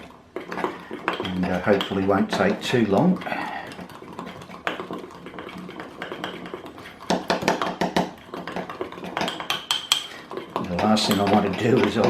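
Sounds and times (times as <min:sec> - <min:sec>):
teaspoon clinking in a cup: 0:00.4 - 0:12.0.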